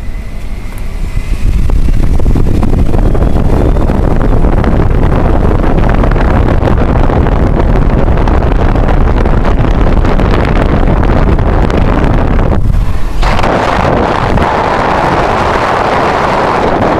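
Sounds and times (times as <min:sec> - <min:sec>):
car road and engine noise: 0:00.0 - 0:16.9
wind buffeting microphone: 0:00.0 - 0:16.9.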